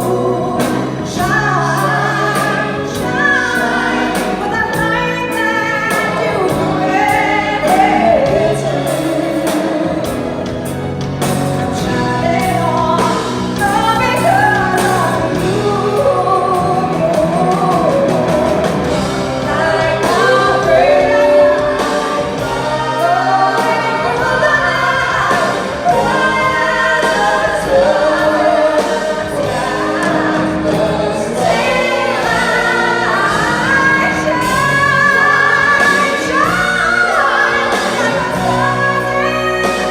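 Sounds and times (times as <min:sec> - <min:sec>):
instrumental accompaniment: 0:00.0 - 0:39.9
people singing: 0:00.0 - 0:39.9.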